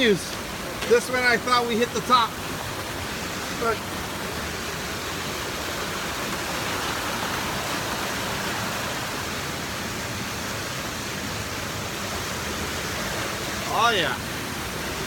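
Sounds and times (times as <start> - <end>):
flowing stream water: 0.0 - 15.0.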